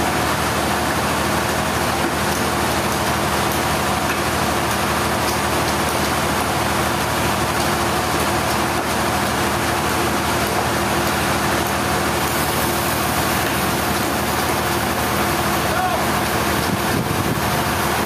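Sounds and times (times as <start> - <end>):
sawmill machinery drone: 0.0 - 18.0.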